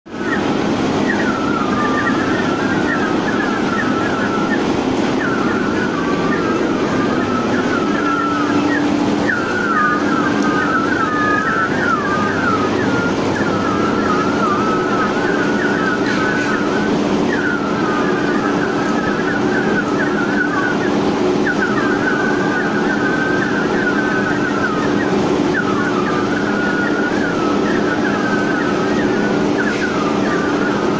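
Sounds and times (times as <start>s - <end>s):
high-pitched warble: 0.1s - 30.9s
printing machine humming: 0.1s - 30.9s.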